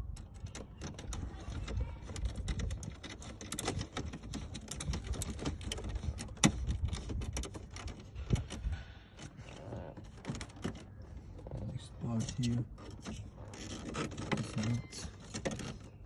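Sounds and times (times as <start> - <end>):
plastic parts clicking and knocking: 0.0 - 16.0.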